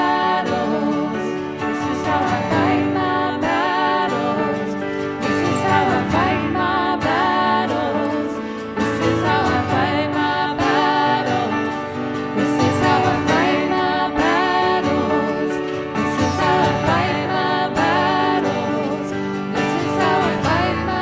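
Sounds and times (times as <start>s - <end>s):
guitar: 0.0s - 21.0s
person singing: 0.0s - 21.0s
worship band music: 0.0s - 21.0s.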